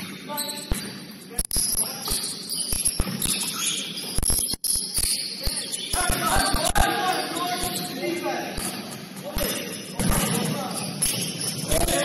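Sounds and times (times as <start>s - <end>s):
sneaker squeaks: 0.0s - 12.0s.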